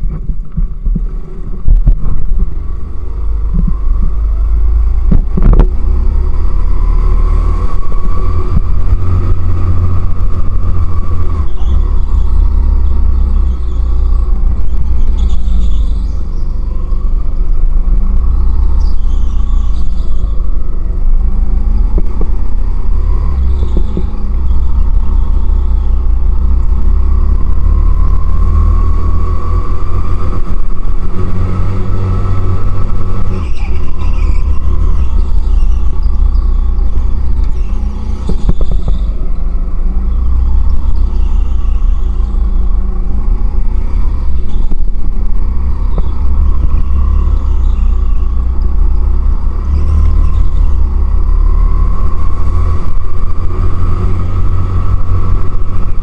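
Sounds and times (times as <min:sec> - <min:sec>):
go-kart engine rumble and whine: 0:00.0 - 0:56.0.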